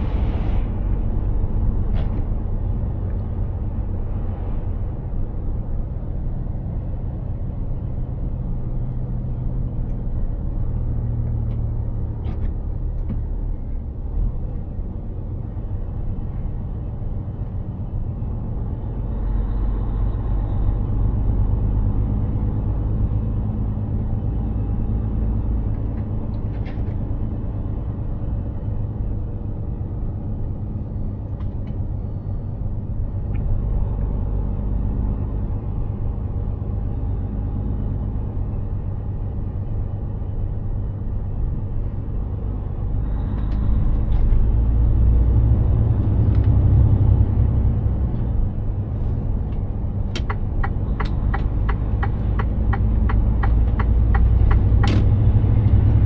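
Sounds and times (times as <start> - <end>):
road noise: 0.0 - 56.0
truck diesel engine rumbling: 0.0 - 56.0.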